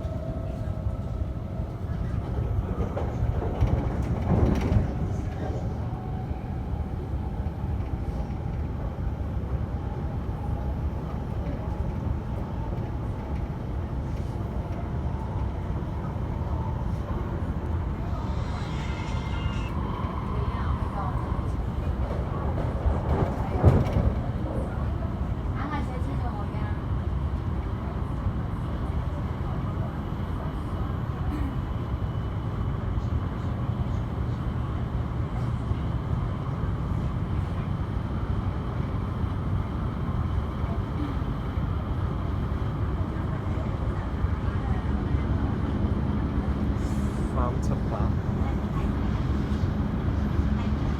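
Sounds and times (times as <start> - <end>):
electric train rumbling: 0.0 - 50.9.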